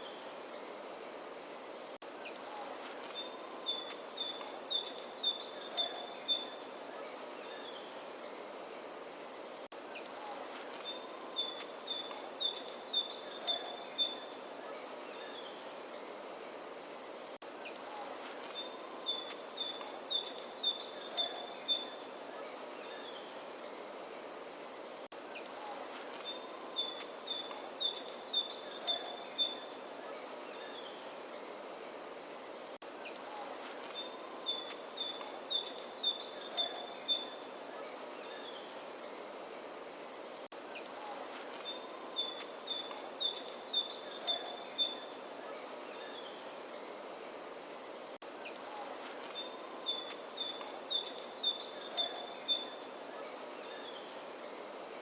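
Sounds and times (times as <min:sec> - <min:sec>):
faint outdoor hiss: 0:00.0 - 0:55.0
songbird singing: 0:00.0 - 0:55.0.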